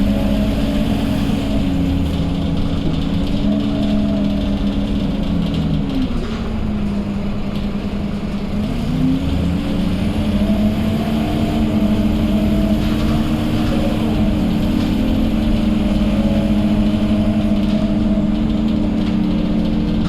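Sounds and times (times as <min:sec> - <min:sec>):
bus engine droning whine: 0:00.0 - 0:20.0.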